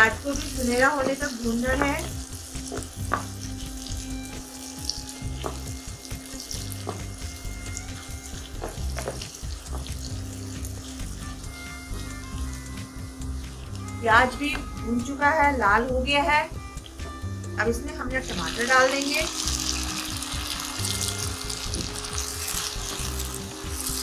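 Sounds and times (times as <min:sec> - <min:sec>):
onions sizzling in oil: 0:00.0 - 0:17.3, 0:18.1 - 0:24.0.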